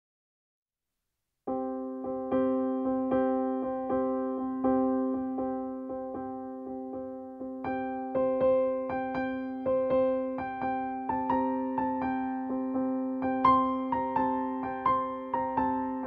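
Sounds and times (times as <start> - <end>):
piano music: 1.5 - 16.0.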